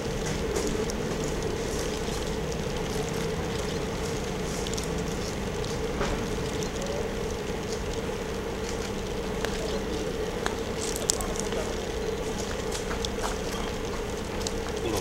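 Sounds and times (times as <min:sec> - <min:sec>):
steady mechanical hum: 0:00.0 - 0:15.0
faint clicks: 0:00.1 - 0:15.0.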